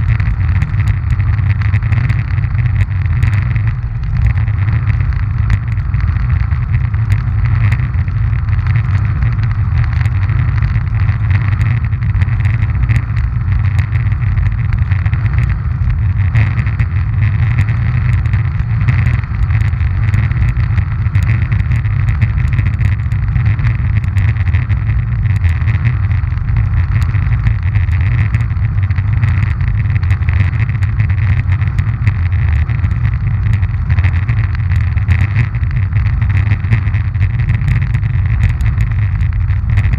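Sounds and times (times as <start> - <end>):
grit ticking: 0.0 - 39.9
wheels rumbling on asphalt: 0.0 - 39.9.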